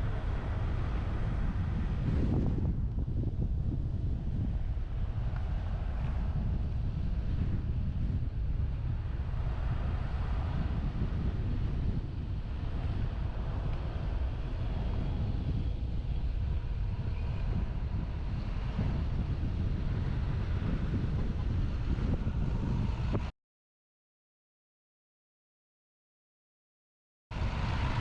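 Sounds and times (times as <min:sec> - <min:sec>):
road and vehicle noise: 0:00.0 - 0:23.3, 0:27.3 - 0:28.0
wind rushing over microphone: 0:00.0 - 0:23.3, 0:27.3 - 0:28.0.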